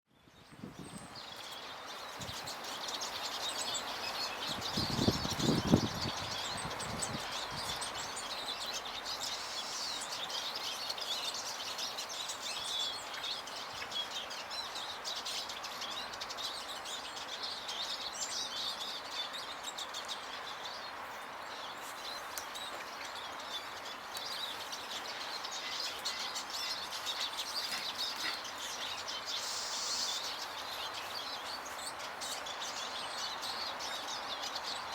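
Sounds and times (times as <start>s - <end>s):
small birds chirping: 0.1s - 34.9s
background hiss: 0.7s - 34.9s.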